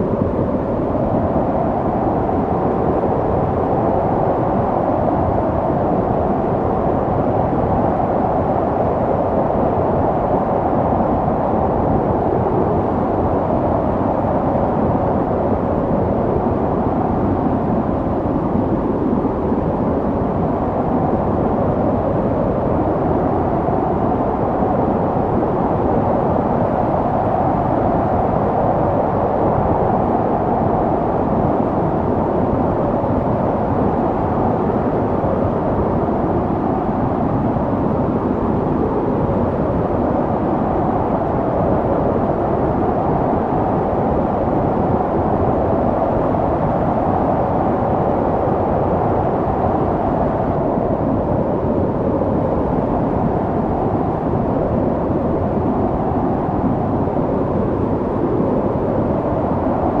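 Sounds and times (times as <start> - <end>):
snowstorm wind blowing: 0.0 - 60.0.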